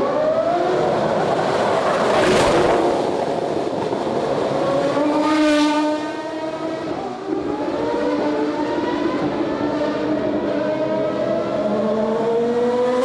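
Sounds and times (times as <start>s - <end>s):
racing car engines at high revs: 0.0s - 13.0s.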